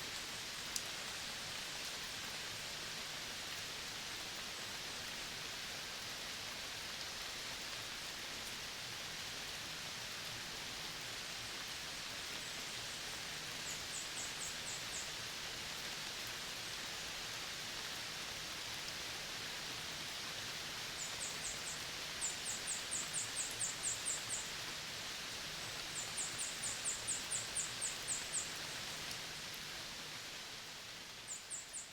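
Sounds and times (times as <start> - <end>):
dense forest hiss: 0.0 - 31.9.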